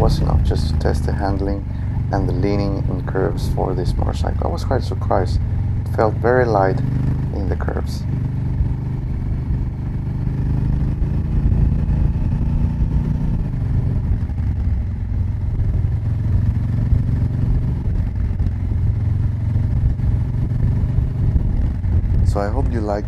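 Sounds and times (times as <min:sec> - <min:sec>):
motorcycle engine exhaust: 0:00.0 - 0:23.0.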